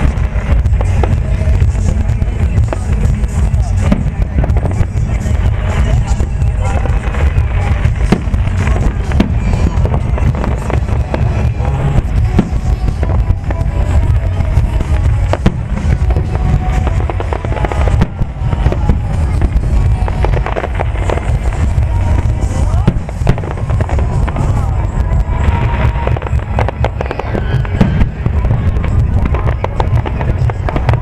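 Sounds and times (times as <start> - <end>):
fireworks bangs and crackles: 0.0 - 31.0
low rumble: 0.0 - 31.0
music playing: 0.0 - 31.0.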